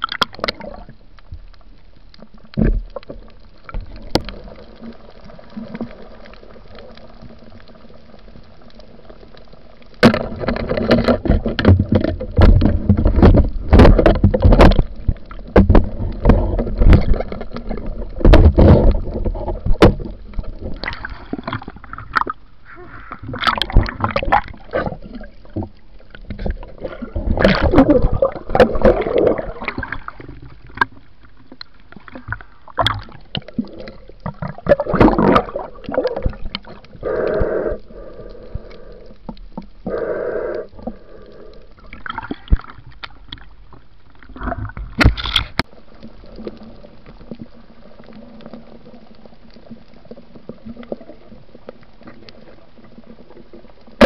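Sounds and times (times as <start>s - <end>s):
sea water sloshing and splashing: 0.0s - 54.0s
underwater noise: 0.0s - 54.0s.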